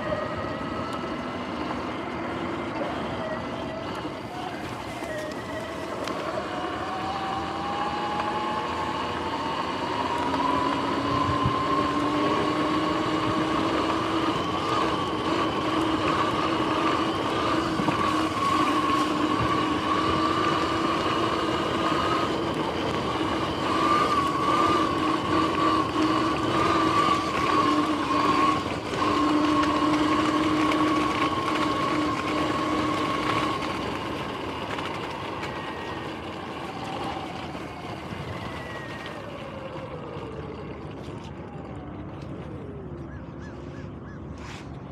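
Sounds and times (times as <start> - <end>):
electric motor whining: 0.0 - 43.2.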